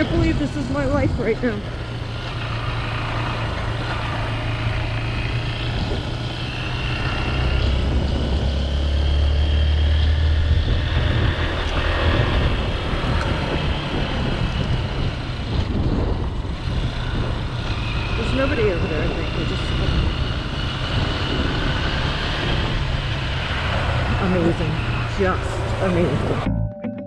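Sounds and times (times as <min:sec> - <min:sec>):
rush of wind noise: 0:00.0 - 0:26.5
motorcycle engine running: 0:00.0 - 0:26.7.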